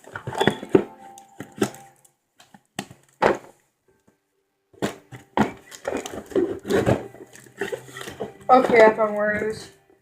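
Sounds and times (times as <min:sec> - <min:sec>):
objects clattering and rustling: 0:00.0 - 0:04.1, 0:04.7 - 0:10.0.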